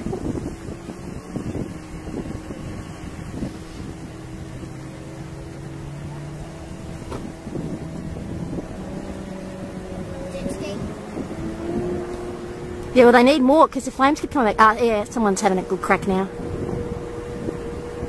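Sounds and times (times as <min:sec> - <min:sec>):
motorboat engines droning: 0:00.0 - 0:18.0
wind buffeting microphone: 0:00.0 - 0:18.0.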